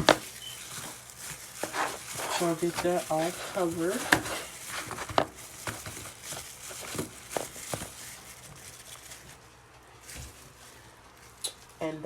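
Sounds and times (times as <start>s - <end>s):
breading rustling: 0.0s - 12.0s.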